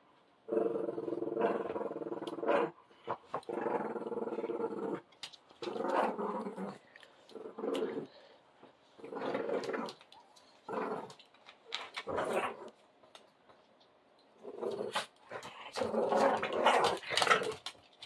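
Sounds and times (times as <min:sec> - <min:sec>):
dogs growling in play: 0:00.5 - 0:12.8, 0:14.4 - 0:17.8.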